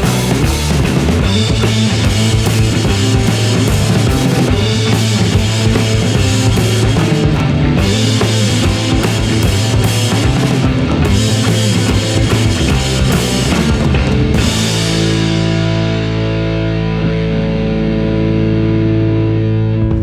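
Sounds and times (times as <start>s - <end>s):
rock music with drums and guitar: 0.0s - 20.0s.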